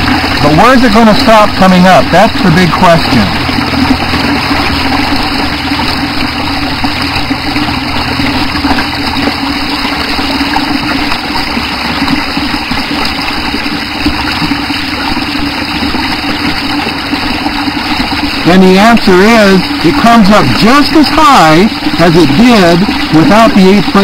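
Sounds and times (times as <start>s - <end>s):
steady low hum: 0.0s - 24.0s
water pouring over spillway: 0.0s - 24.0s.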